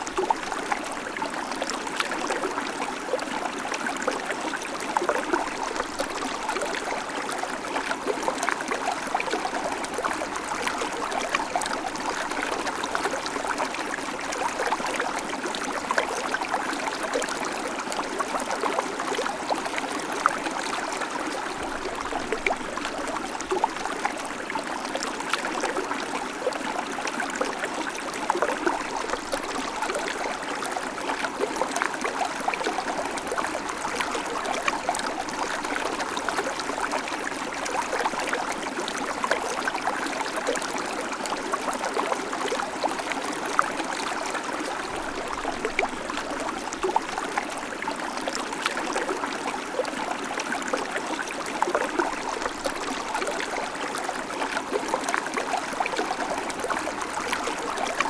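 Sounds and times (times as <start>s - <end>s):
creek water running over stones: 0.0s - 58.0s.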